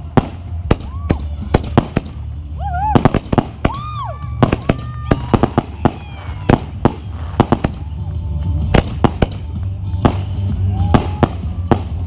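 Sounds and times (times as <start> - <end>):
fireworks bangs: 0.0 - 2.3, 2.9 - 8.0, 8.6 - 12.0.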